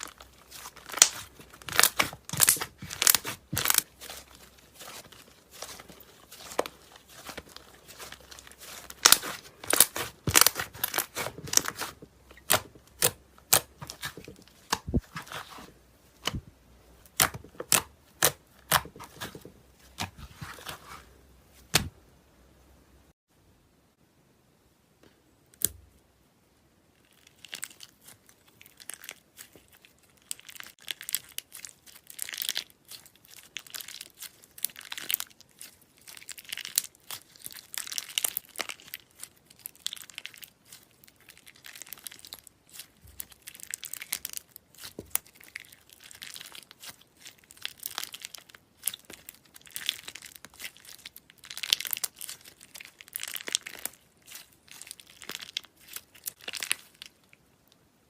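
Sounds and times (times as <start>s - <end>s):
slime crackling and crinkling: 0.0s - 22.0s, 26.9s - 57.9s.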